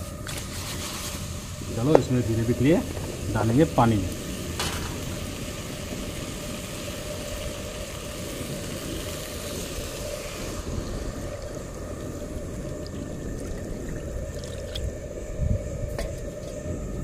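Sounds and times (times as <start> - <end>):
gas burner low rumble: 0.0 - 17.0
water hissing in hot pan: 0.0 - 17.0.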